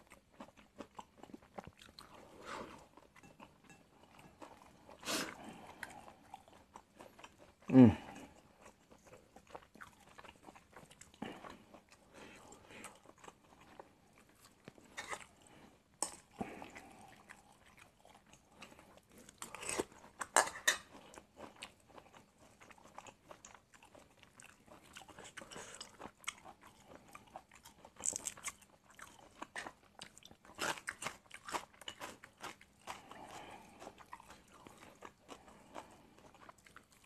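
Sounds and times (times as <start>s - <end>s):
chewing and mouth sounds: 0.0s - 37.0s.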